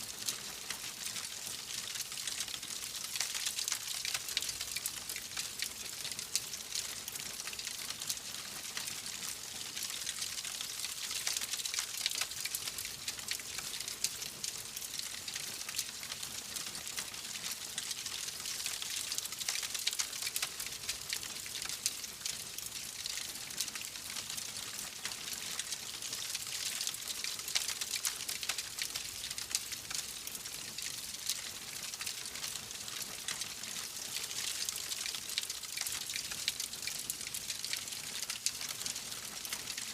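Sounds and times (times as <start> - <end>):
fire crackling in a fireplace: 0.2 - 24.0, 24.6 - 39.9.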